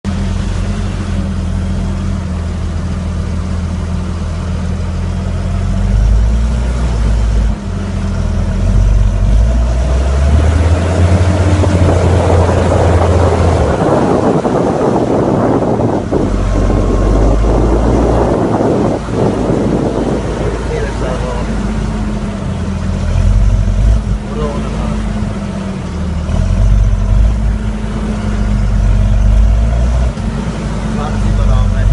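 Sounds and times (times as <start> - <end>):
loud raw tractor diesel engine: 0.0 - 31.9.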